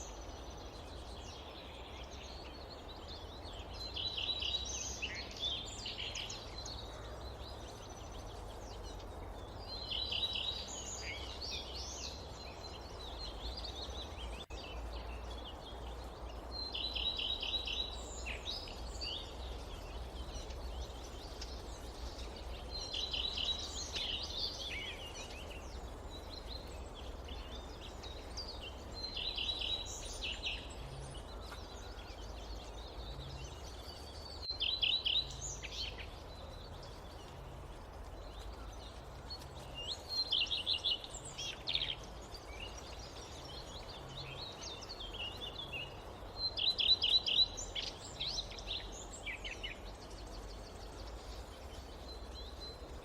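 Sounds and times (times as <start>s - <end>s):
outdoor rumble and hiss: 0.0s - 53.0s
songbird whistling and chirping: 7.8s - 53.0s.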